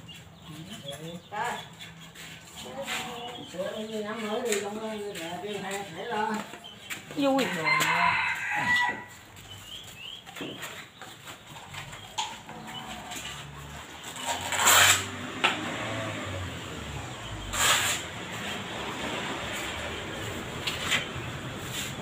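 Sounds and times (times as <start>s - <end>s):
metal scraping on cement pots: 0.0s - 22.0s.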